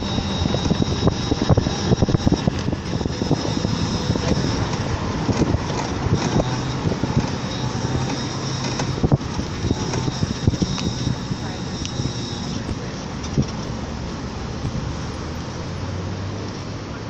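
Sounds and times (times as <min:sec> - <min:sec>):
vehicle running noise: 0:00.0 - 0:17.0.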